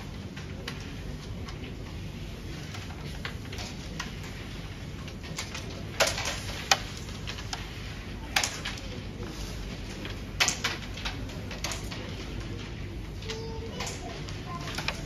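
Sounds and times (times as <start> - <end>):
carrom pieces clicking: 0.2 - 15.0.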